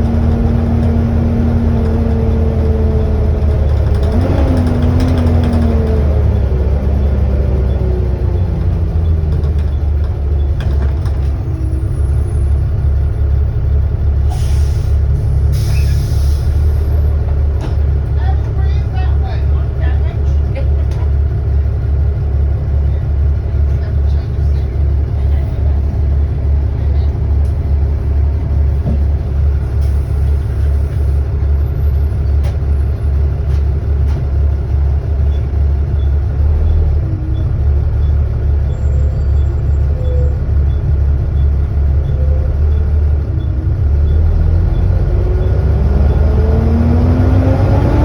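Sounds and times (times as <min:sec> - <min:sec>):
bus accelerating with rising whine: 0:00.0 - 0:48.0
diesel bus engine idling: 0:00.0 - 0:48.0.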